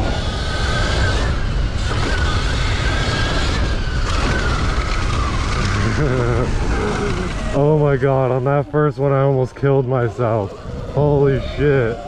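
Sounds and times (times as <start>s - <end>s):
electric dirt bike motor whining: 0.0s - 12.0s
wind rumble on microphone: 0.0s - 12.0s.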